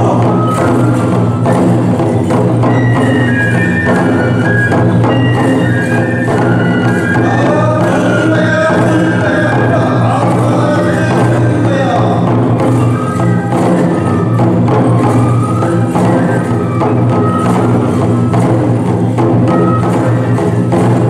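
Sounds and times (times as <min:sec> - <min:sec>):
bamboo flute tones: 0:00.0 - 0:21.0
taiko drums beating: 0:00.0 - 0:21.0.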